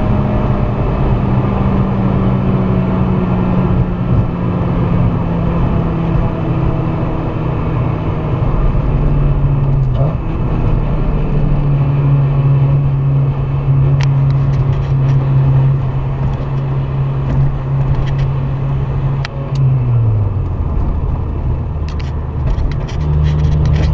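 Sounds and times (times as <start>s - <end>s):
car engine running: 0.0s - 23.9s
road noise: 0.0s - 23.9s.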